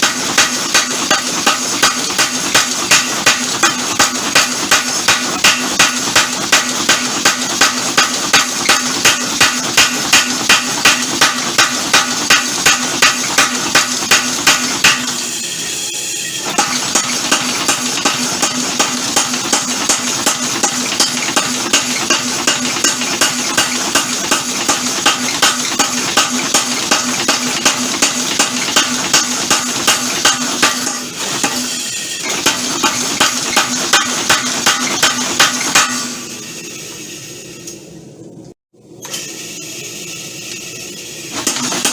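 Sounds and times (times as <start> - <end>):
power hammer striking steel: 0.0 - 15.4, 16.4 - 36.4, 41.4 - 41.9.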